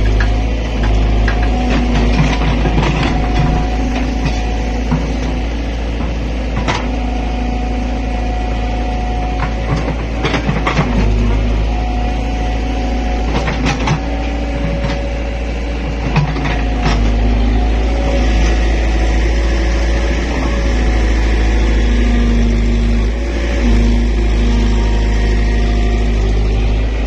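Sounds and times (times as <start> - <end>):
excavator diesel engine running: 0.0 - 27.0
hydraulic whine: 0.0 - 27.0.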